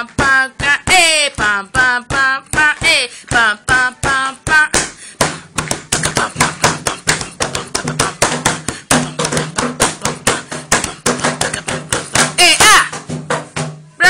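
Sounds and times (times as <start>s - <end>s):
person singing rhythmic syllables: 0.0s - 13.2s
hand percussion taps and claps: 2.1s - 13.7s.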